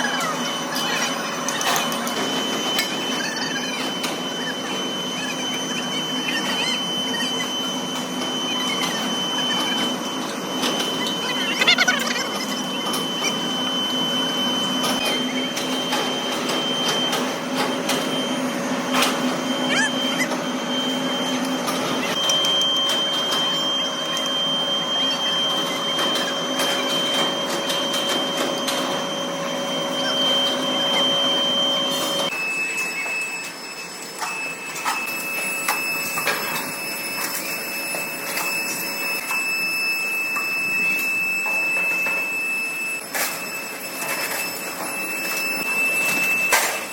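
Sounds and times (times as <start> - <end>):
metalworking machine whine: 0.0 - 46.9.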